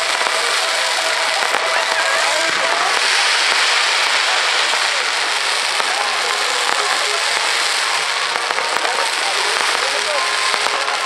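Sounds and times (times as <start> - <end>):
fireworks crackling: 0.0 - 11.0
fireworks popping: 0.0 - 11.0.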